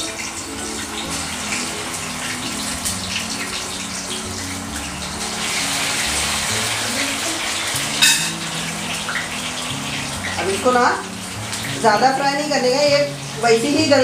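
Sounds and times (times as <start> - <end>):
oil sizzling and bubbling: 0.0 - 14.0.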